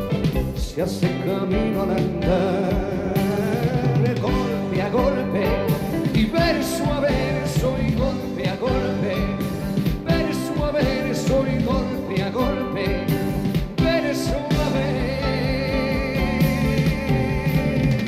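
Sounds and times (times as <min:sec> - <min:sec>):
band playing with steady beat: 0:00.0 - 0:18.0.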